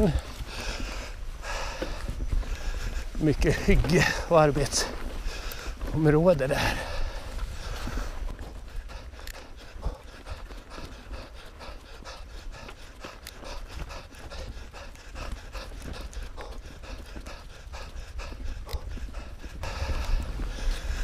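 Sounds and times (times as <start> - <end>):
bike clicks and rattles: 0.0 - 21.0
bike tyres rumbling on dirt: 0.0 - 21.0.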